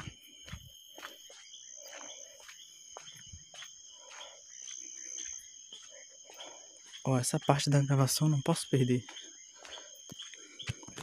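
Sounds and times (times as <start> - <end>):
crickets trilling: 0.0 - 11.0
footsteps scuffing on dirt: 0.0 - 11.0.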